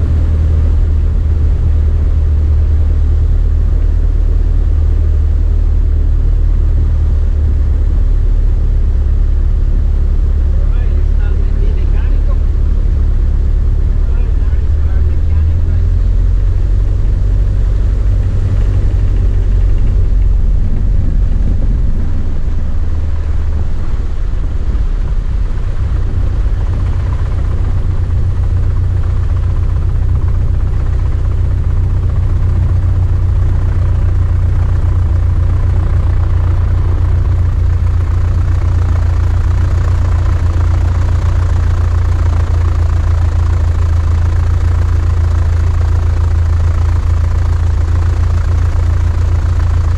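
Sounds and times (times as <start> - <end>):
small plane engine droning: 0.0 - 49.9.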